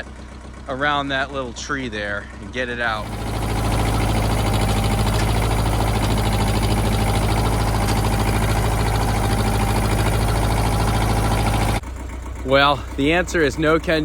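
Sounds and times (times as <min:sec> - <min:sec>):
tractor diesel engine straining: 0:00.0 - 0:14.0.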